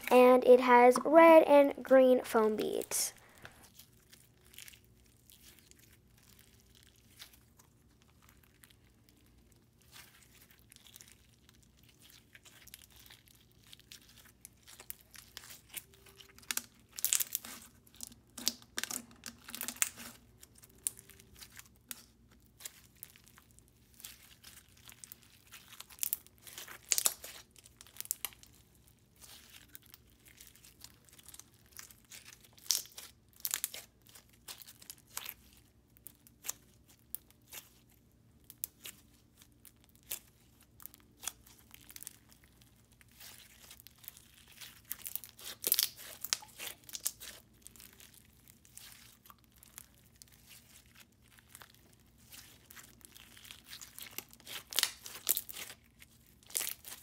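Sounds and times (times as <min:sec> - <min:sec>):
crunchy slime being squeezed: 0:03.3 - 0:57.0.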